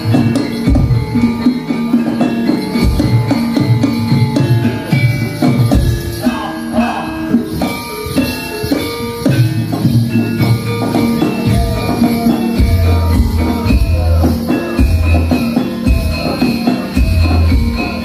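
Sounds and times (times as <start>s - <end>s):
drums: 0.0s - 18.0s
jingling bells: 0.0s - 18.0s
pitched percussion: 0.0s - 18.0s.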